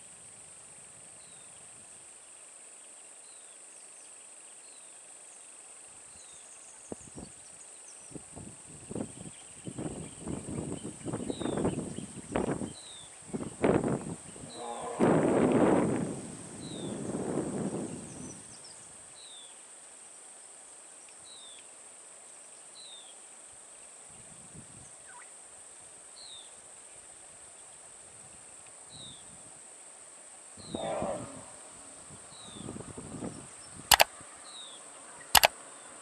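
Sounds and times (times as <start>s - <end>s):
steady high hiss: 0.0s - 30.7s.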